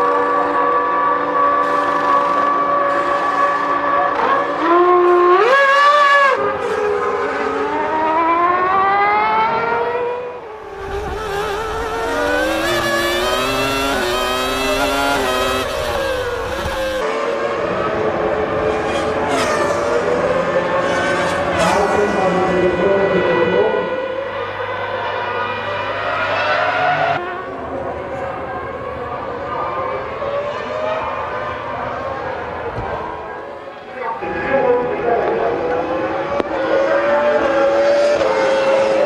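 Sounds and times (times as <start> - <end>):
racing car engines revving: 0.0 - 39.0.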